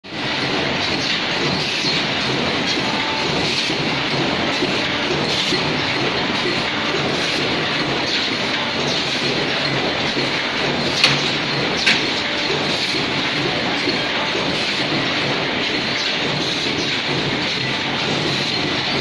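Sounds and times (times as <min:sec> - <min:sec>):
machines clattering: 0:00.0 - 0:19.0.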